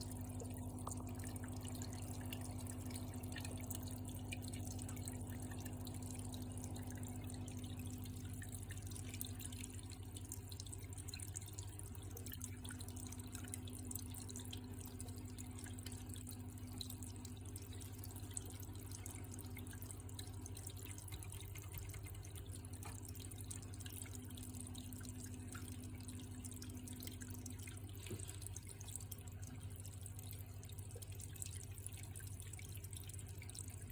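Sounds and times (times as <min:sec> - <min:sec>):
water dripping and trickling: 0:00.0 - 0:33.9.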